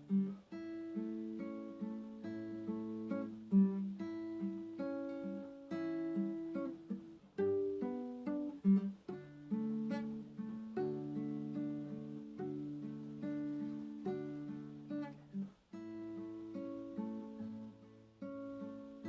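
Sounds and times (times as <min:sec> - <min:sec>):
acoustic guitar piece: 0:00.0 - 0:19.0.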